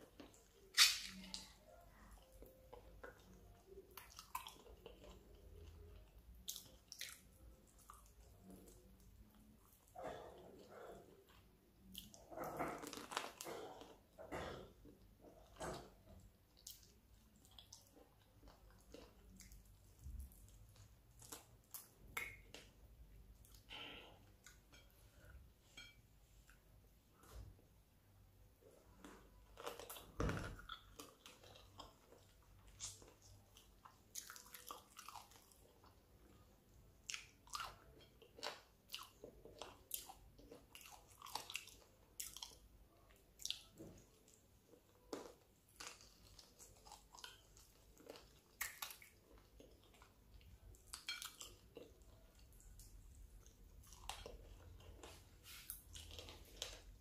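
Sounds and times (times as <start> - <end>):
person chewing: 0.0 - 26.6, 28.6 - 57.0.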